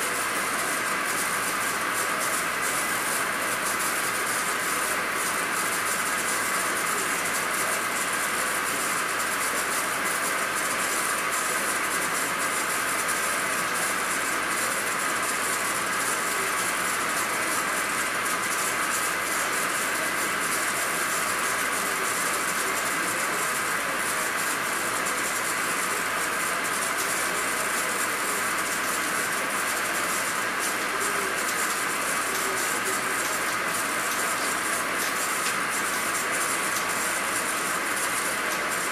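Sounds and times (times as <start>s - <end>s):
lathe cutting metal: 0.0s - 38.9s.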